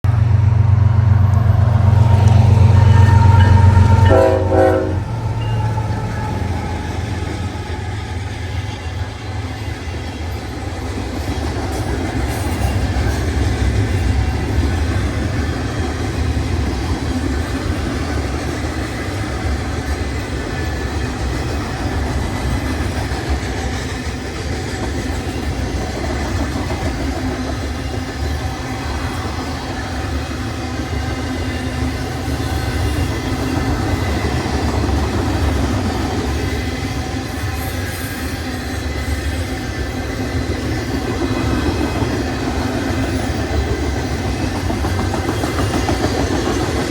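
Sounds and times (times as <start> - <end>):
freight train rumble: 0.0 - 46.9
wheels clattering on rails: 0.2 - 46.9.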